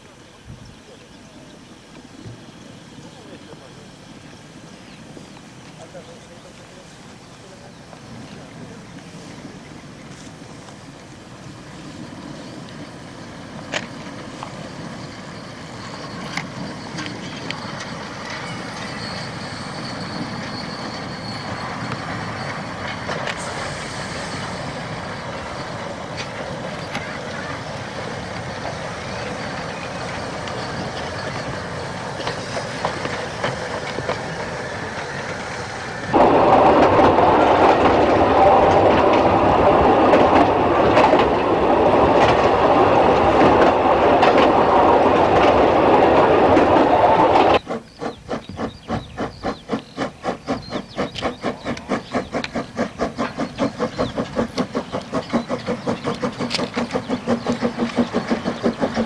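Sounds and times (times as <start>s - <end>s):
steam locomotive running: 0.0s - 59.0s.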